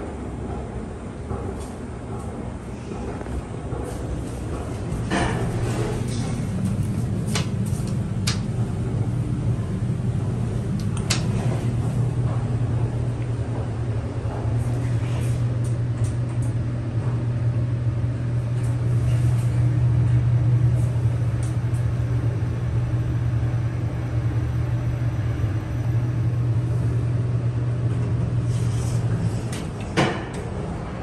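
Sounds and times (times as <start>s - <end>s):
elevator machinery humming: 0.0s - 31.0s.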